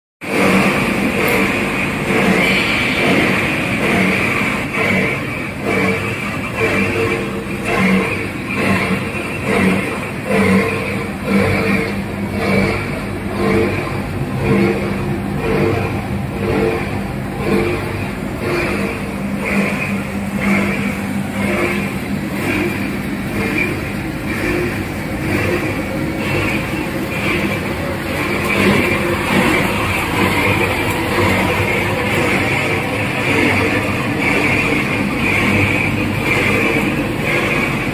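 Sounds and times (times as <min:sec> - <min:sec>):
wire granulator machine running: 0:00.2 - 0:37.9.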